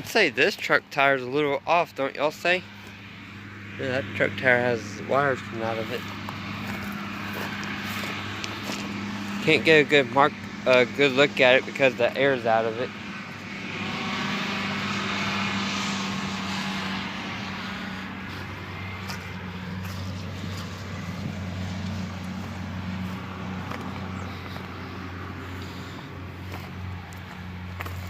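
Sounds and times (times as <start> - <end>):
low engine hum: 0.0 - 28.0
vehicle passing by: 0.0 - 28.0.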